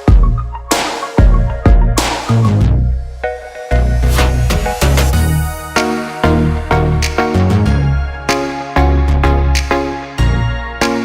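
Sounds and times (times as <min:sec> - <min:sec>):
background music with heavy bass: 0:00.0 - 0:11.0.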